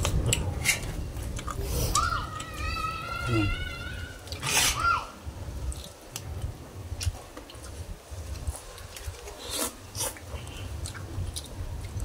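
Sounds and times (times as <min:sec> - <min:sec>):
people chewing and slurping: 0:00.0 - 0:04.8, 0:05.5 - 0:12.0.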